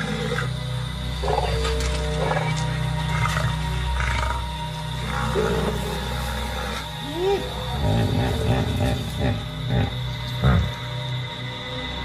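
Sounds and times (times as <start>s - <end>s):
suspenseful soundtrack music: 0.0s - 12.0s.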